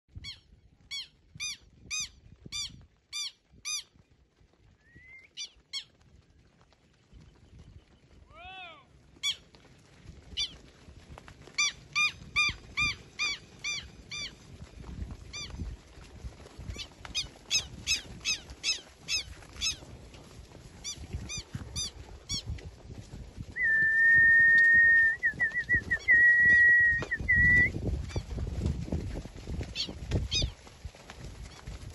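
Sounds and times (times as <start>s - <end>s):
shuffle of hooves: 0.1s - 31.9s.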